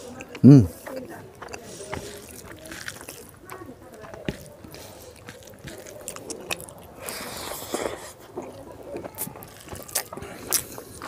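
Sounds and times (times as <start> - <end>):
close chewing and mouth sounds: 0.0 - 11.0.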